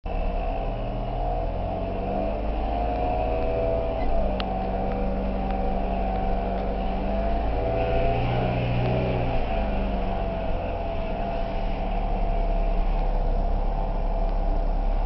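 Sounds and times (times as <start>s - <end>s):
car engine running: 0.0s - 15.0s
supercharger whine: 0.1s - 15.0s.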